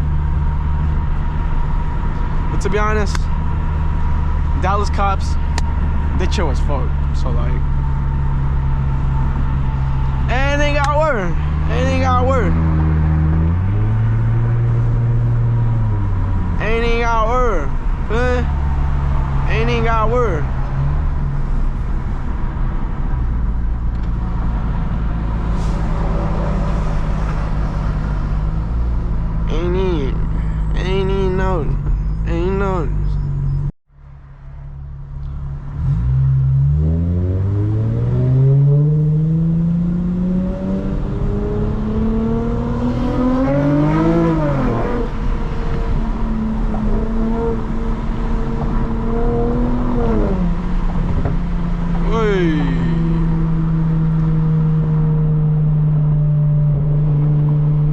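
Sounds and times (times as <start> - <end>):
car engine droning at cruise: 0.0 - 57.9.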